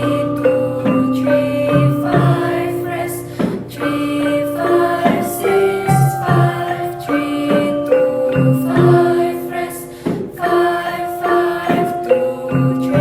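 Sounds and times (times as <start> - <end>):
low gong tones: 0.0 - 13.0
metallophones struck: 0.0 - 13.0
voices singing: 0.0 - 13.0.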